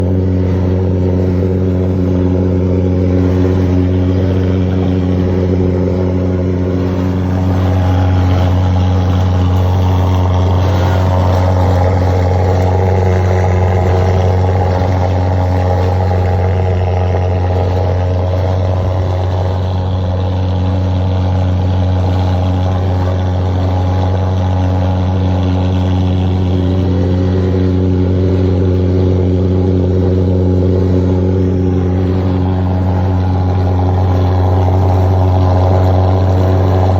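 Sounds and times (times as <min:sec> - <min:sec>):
engine running steadily: 0:00.0 - 0:36.9.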